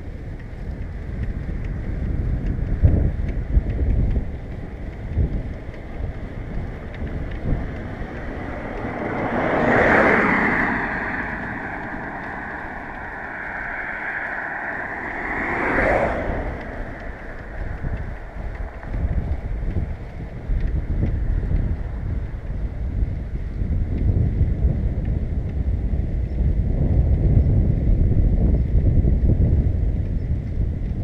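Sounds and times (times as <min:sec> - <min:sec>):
car passing: 0:00.0 - 0:25.0
wind buffeting microphone: 0:00.0 - 0:31.0.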